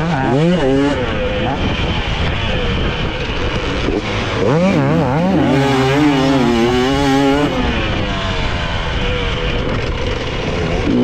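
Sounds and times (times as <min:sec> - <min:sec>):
dirt bike engine revving: 0:00.0 - 0:11.0
riding noise rush: 0:00.0 - 0:11.0.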